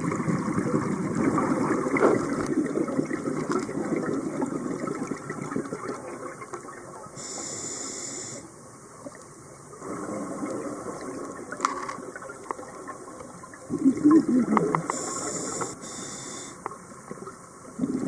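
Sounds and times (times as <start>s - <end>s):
bubbling water underwater: 0.0s - 7.3s, 8.9s - 15.8s, 16.7s - 18.0s.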